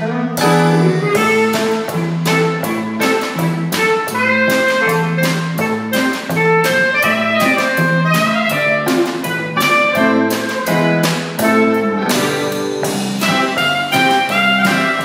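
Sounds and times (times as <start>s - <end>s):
bass guitar: 0.0s - 15.0s
clarinet: 0.0s - 15.0s
drum kit: 0.0s - 15.0s.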